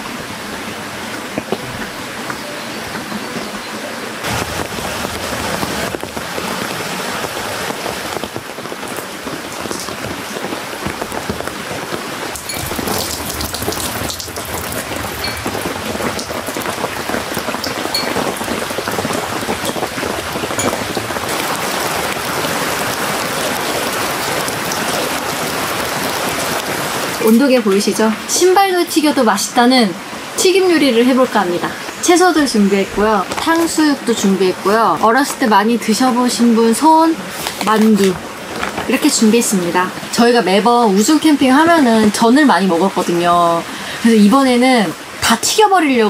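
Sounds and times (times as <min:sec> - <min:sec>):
rain tapping on shelter: 0:00.0 - 0:46.0.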